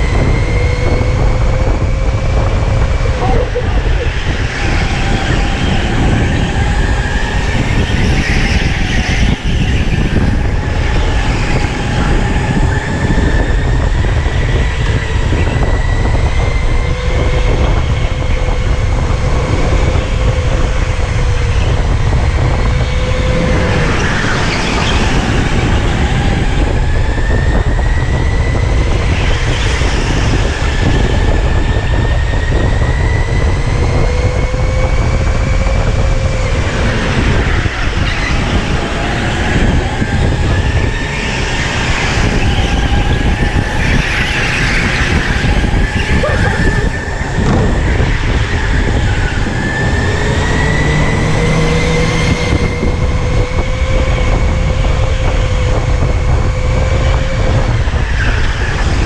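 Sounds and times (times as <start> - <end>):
electric motor whining: 0.0 - 58.1
heavy low rumble: 0.0 - 59.0.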